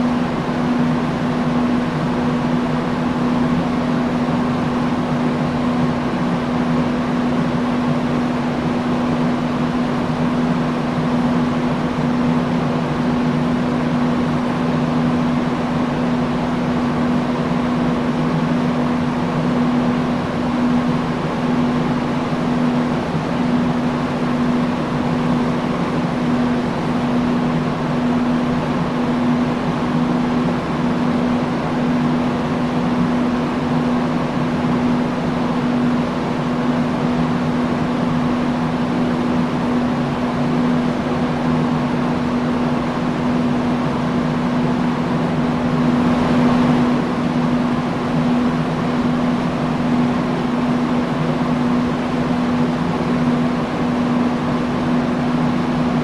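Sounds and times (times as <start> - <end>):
industrial fan rushing air: 0.0 - 56.0
low motor hum: 0.0 - 56.0.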